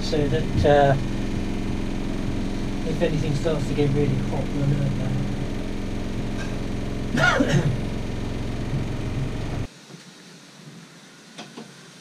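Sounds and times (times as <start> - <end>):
low machine hum: 0.0 - 9.7.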